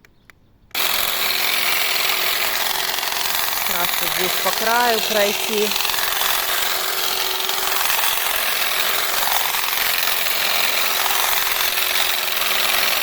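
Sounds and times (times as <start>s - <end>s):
grass shears buzzing: 0.7s - 13.0s.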